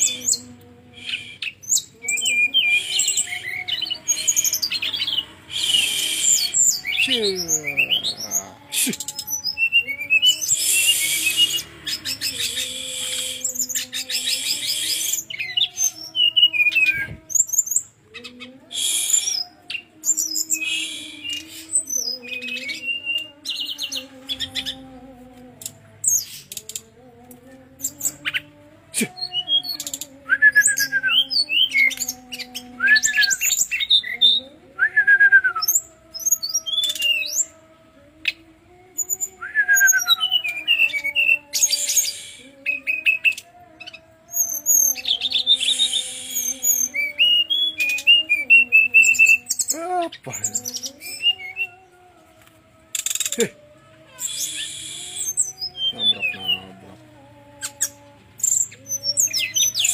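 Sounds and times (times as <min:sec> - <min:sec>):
bird singing trills and whistles: 0:00.0 - 0:24.8, 0:27.8 - 0:37.6, 0:38.2 - 0:51.9, 0:52.9 - 0:53.5, 0:54.2 - 0:56.8, 0:57.6 - 0:59.9.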